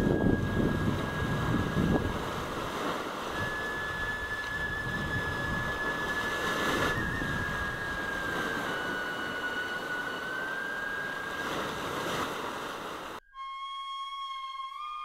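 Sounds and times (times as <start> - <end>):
thin high whistle tone: 0.0 - 15.0.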